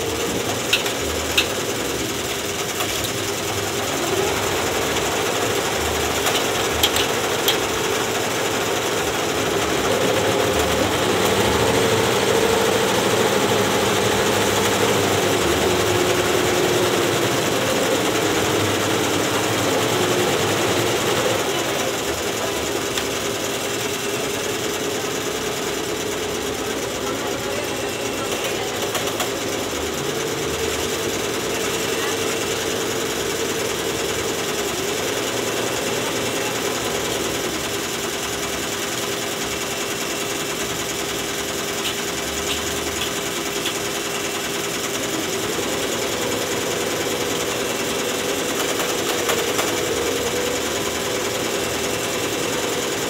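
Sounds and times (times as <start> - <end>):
embroidery machines clattering: 0.0 - 53.0.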